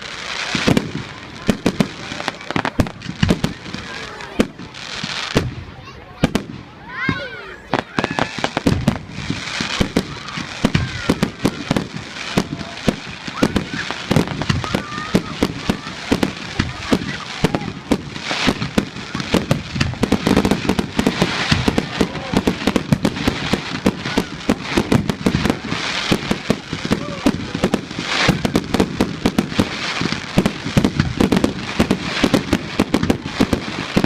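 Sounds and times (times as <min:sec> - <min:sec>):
fireworks banging: 0:00.0 - 0:34.0.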